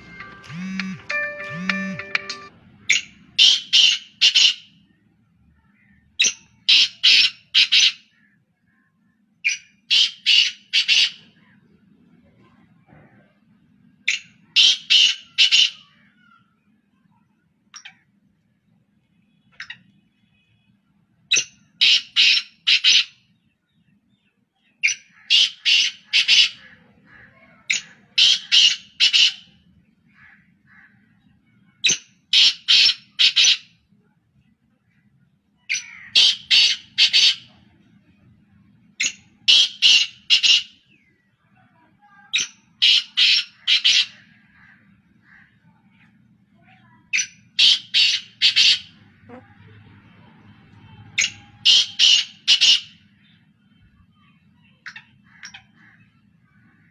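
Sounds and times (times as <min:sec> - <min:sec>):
birds calling harshly: 0:00.0 - 0:56.9.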